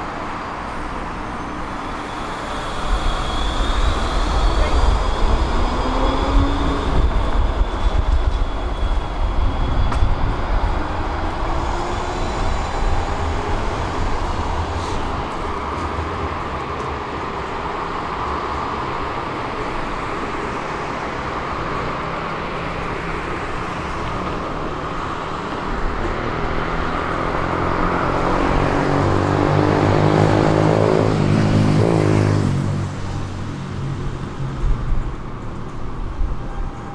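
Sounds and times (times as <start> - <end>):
electric tram motors whining: 0.0 - 31.9
hum of city traffic: 0.0 - 36.9.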